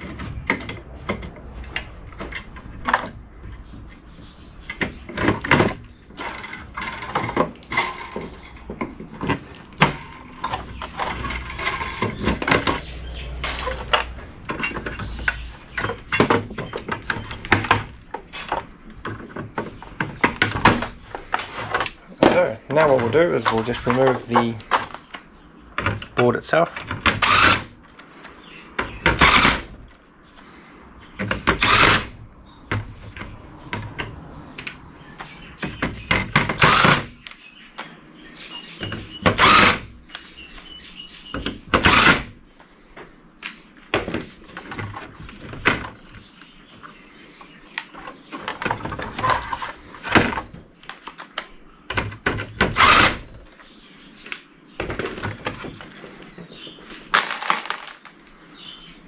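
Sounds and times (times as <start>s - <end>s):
handling clunks and rattles: 0.0s - 28.1s, 31.0s - 58.8s.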